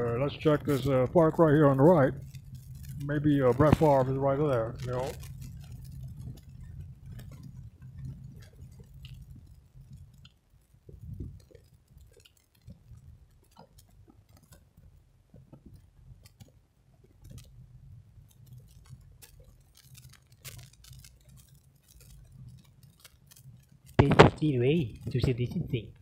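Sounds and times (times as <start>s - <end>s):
light clicks and ticks: 0.0s - 26.0s.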